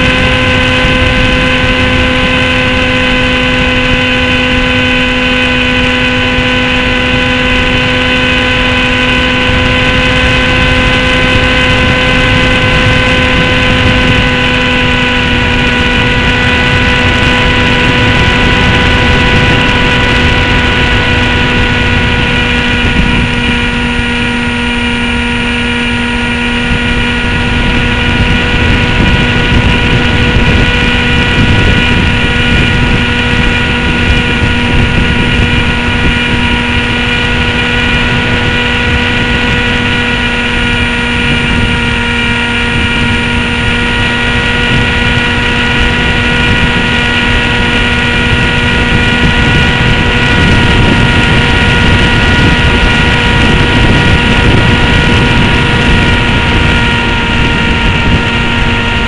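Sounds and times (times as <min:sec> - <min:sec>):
model airplane motor whining: 0:00.0 - 0:59.0
wind on microphone: 0:00.0 - 0:59.0.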